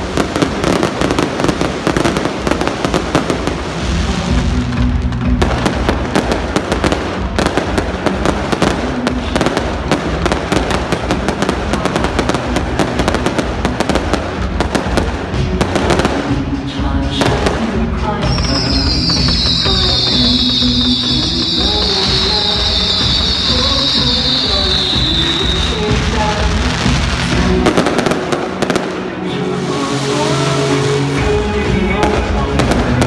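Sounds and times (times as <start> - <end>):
fireworks crackling and banging: 0.0 - 33.0
music playing: 0.0 - 33.0.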